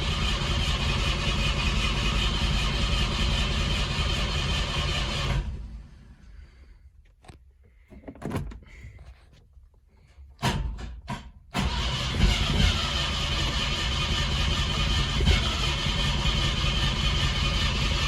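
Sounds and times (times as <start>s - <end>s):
engine starting and running: 0.0s - 18.0s.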